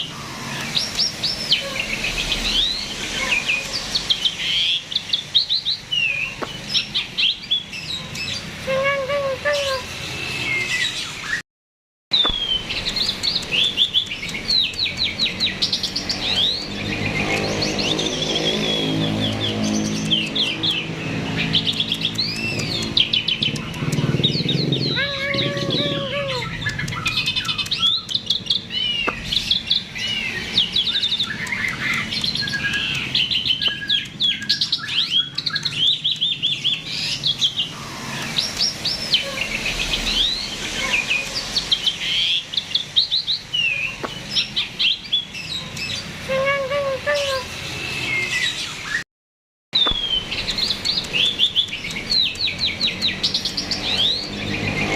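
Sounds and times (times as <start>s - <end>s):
starling singing: 0.0s - 11.4s, 12.2s - 49.0s, 49.8s - 54.9s.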